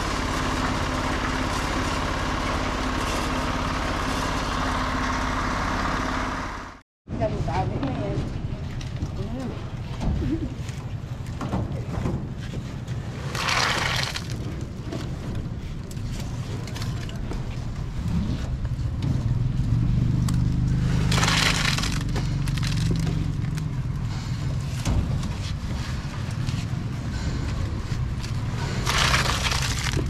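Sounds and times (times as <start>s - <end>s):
concrete mixer engine drone: 0.0s - 11.3s, 12.4s - 30.0s.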